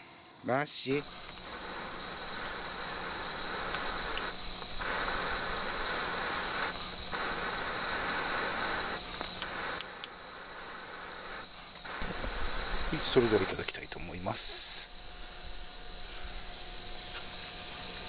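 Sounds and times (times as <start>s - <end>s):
crickets chirping: 0.0s - 18.0s
soft hiss: 0.0s - 18.0s.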